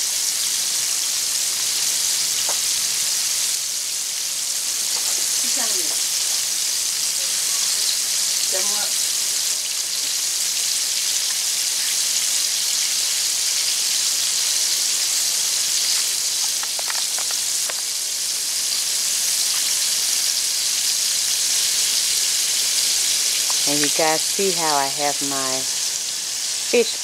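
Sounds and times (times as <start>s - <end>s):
fish sizzling in hot oil: 0.0s - 27.0s.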